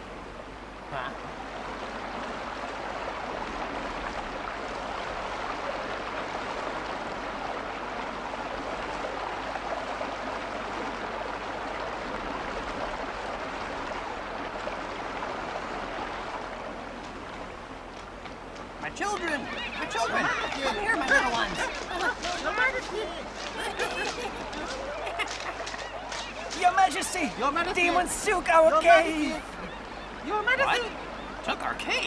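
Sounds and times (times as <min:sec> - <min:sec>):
stream and waterfall rushing: 0:00.0 - 0:32.0.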